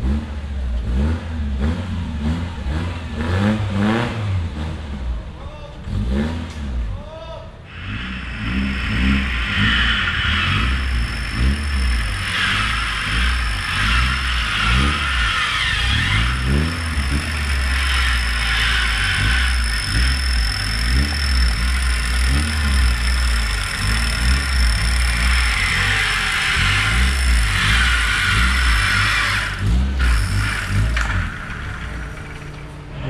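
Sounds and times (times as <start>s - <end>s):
off-road engine revving: 0.0s - 7.0s, 7.7s - 33.0s.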